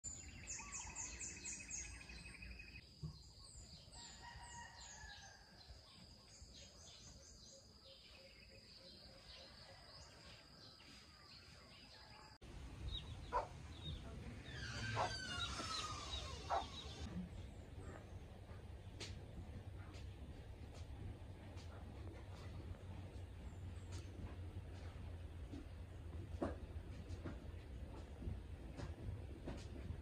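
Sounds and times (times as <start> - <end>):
faint birds chirping: 0.1 - 29.9.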